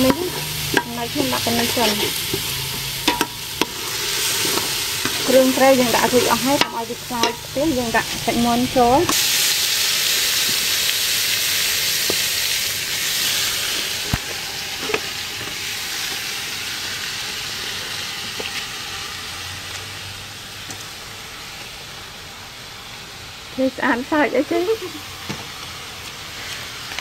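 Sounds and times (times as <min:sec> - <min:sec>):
chicken sizzling in hot oil: 0:00.0 - 0:27.0.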